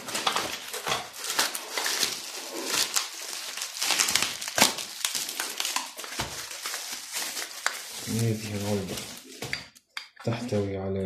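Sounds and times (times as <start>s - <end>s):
plastic wrapping crinkling: 0.0s - 10.2s.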